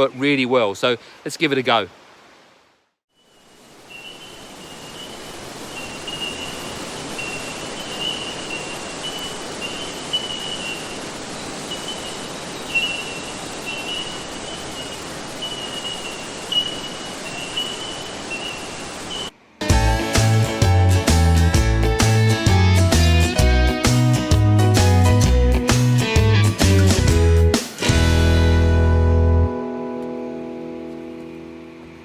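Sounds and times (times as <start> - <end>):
steady rushing hiss: 3.2 - 28.9.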